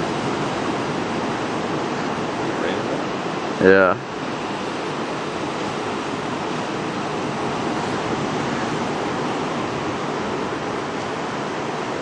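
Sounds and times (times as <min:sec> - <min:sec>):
ocean surf: 0:00.0 - 0:12.0
wind on microphone: 0:00.0 - 0:12.0.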